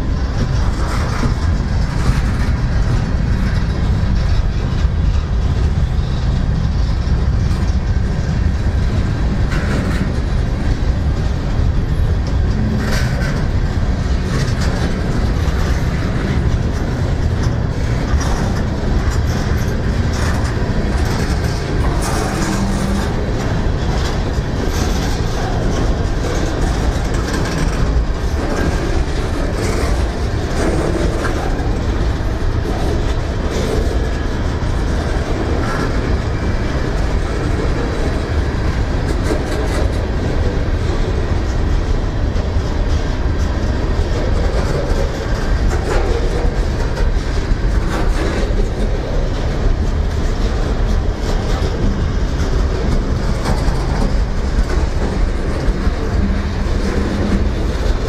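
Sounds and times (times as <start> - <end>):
clicks over rail joints: 0.0 - 58.0
train wheels rumbling on rail: 0.0 - 58.0.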